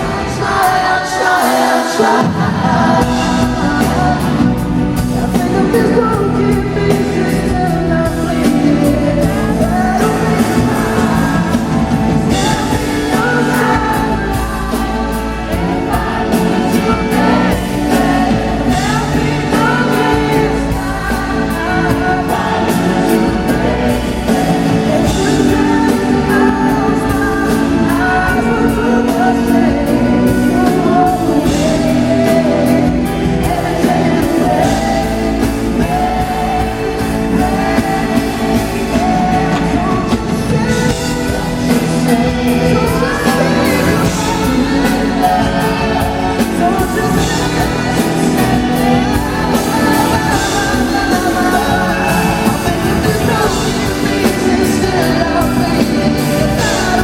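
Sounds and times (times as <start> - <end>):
pop soul ballad live band: 0.0 - 57.0
sung vocals: 0.0 - 57.0.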